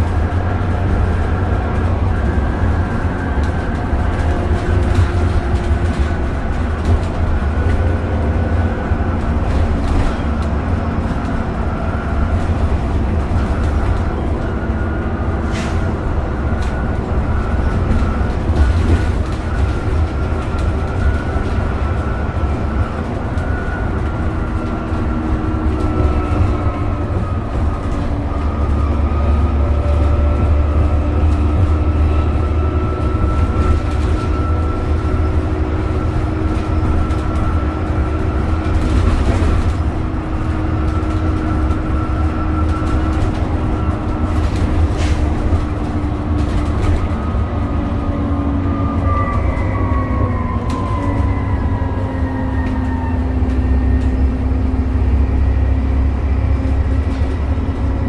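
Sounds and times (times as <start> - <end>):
bus diesel engine drone: 0.0 - 58.0
high axle whine: 0.0 - 58.0.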